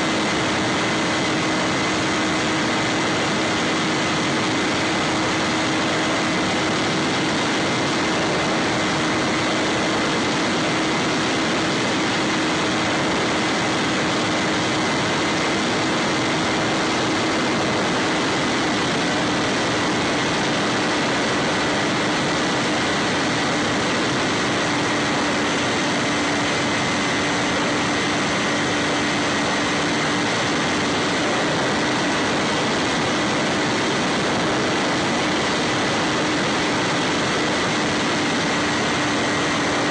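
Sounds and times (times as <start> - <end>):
electric motor and propeller hum: 0.0 - 39.9.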